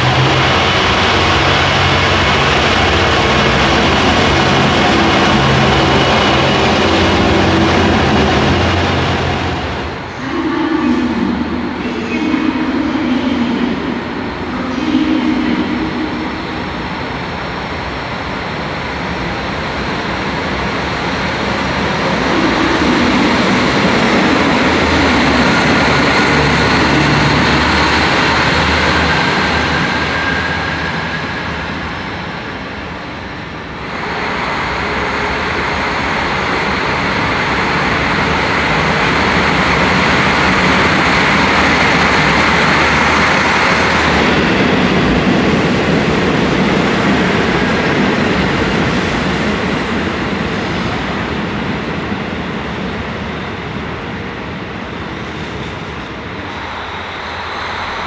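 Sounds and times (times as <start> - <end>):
diesel railcar engine droning: 0.0 - 58.0.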